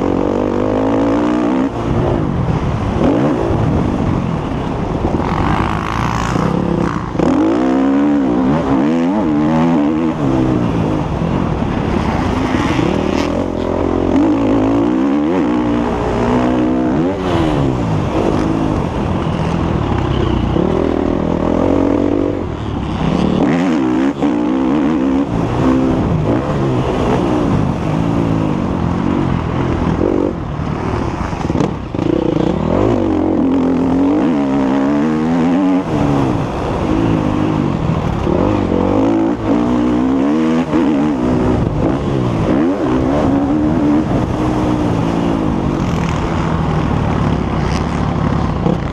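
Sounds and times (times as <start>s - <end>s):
motocross bike engine revving: 0.0s - 4.1s, 5.0s - 48.9s.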